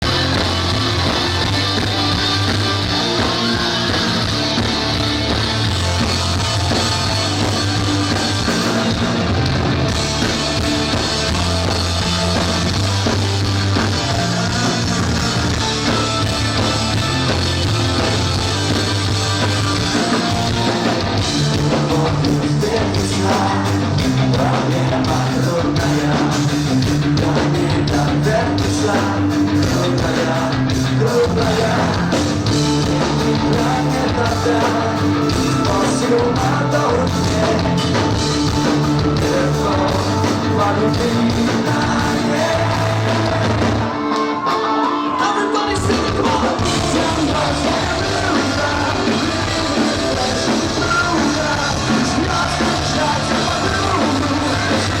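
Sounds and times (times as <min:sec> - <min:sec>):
drum kit: 0:00.0 - 0:55.0
punk rock band playing: 0:00.0 - 0:55.0.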